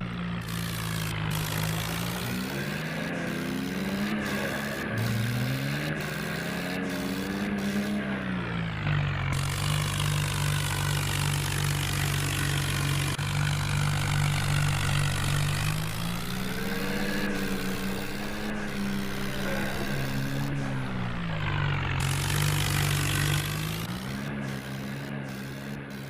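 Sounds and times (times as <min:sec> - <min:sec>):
tractor engine revving: 0:00.0 - 0:26.0.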